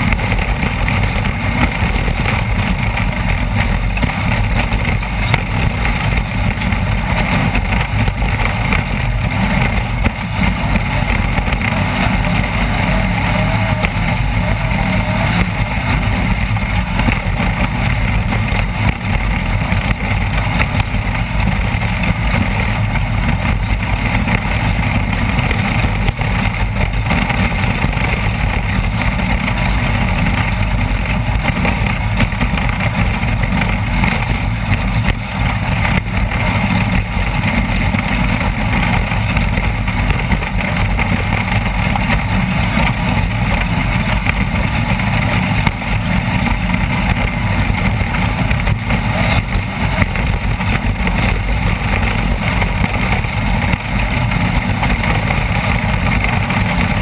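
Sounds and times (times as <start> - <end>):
race vehicle engine drone: 0.0 - 57.0.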